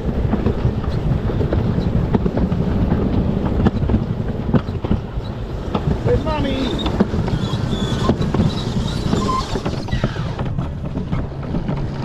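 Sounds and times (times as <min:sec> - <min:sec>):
low rumble of cart wheels: 0:00.0 - 0:12.0.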